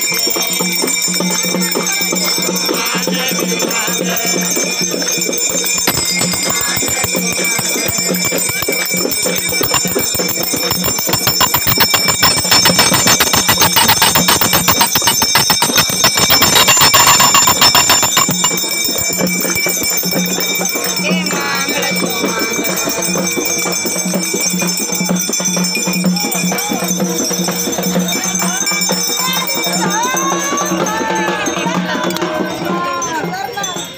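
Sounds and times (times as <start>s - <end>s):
bells rung rapidly: 0.0s - 33.9s.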